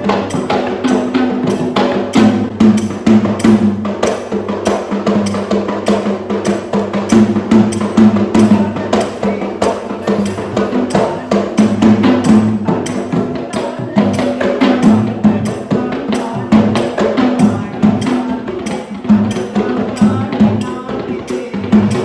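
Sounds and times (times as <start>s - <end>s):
fast sharp drum strokes: 0.0s - 22.0s.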